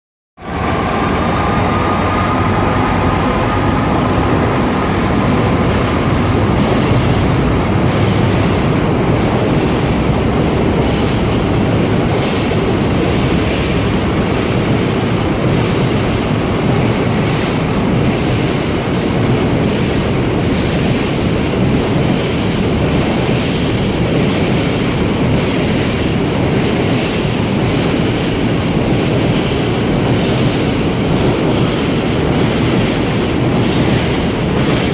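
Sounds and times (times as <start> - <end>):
diesel locomotive engine hum: 0.4 - 34.9
train wheels clattering on rails: 0.5 - 34.9.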